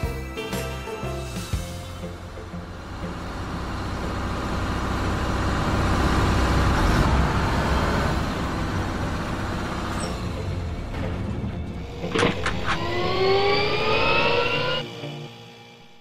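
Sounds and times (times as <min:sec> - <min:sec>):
truck driving past: 0:01.6 - 0:15.0.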